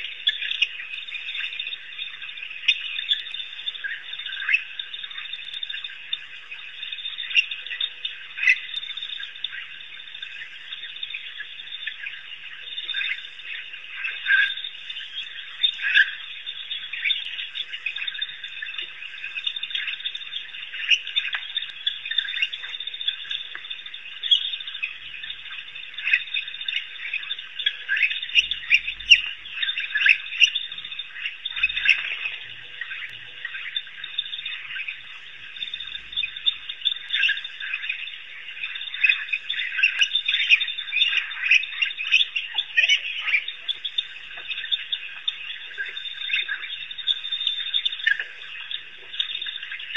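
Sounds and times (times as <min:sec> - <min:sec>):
wild dogs twittering and squealing: 0:00.0 - 0:49.9.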